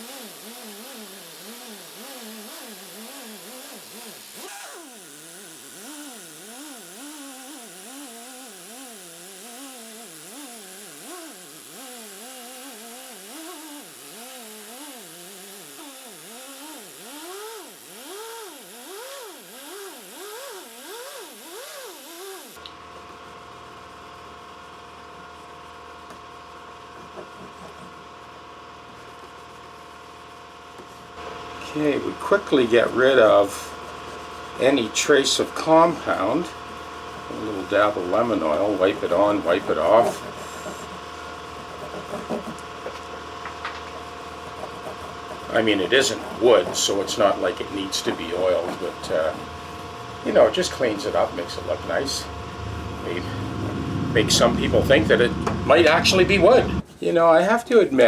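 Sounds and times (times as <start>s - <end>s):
motorised buffing wheel polishing: 0.0s - 58.0s
steady hum: 0.0s - 58.0s.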